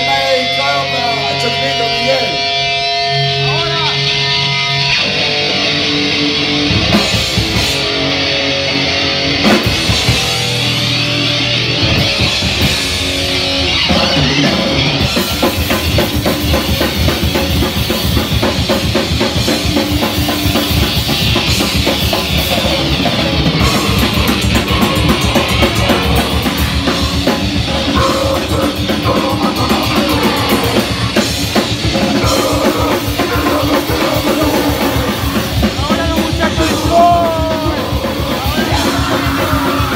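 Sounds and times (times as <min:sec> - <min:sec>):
distorted electric guitar: 0:00.0 - 0:39.9
drum kit: 0:00.0 - 0:39.9.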